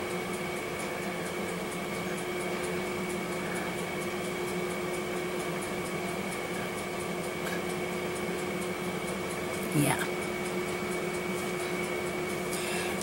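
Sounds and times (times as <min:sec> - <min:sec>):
mechanical hum: 0:00.0 - 0:13.0
faint rapid ticking: 0:00.1 - 0:13.0.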